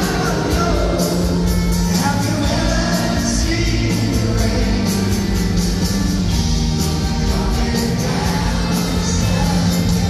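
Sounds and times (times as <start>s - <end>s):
man singing lead: 0.0s - 5.7s, 6.6s - 10.0s
backing voices: 0.0s - 10.0s
bass line: 0.0s - 10.0s
drums with cymbals: 0.0s - 10.0s
electric guitars: 0.0s - 10.0s.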